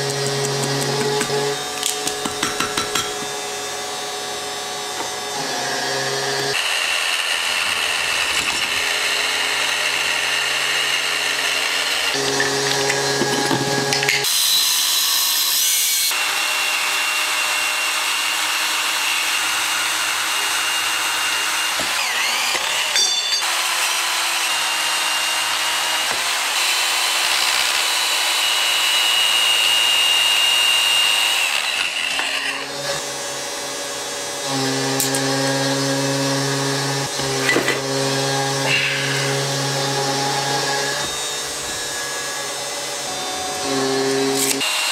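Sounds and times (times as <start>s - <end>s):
power saw cutting steel: 0.0s - 44.9s.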